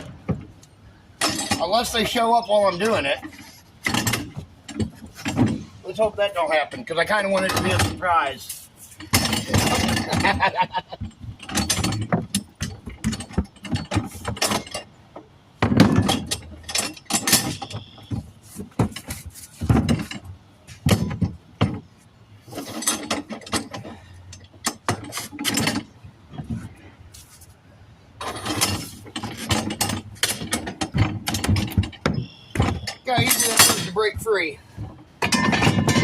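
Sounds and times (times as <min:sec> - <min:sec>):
metal knocks: 0:00.0 - 0:05.8, 0:09.0 - 0:26.8, 0:28.2 - 0:36.0.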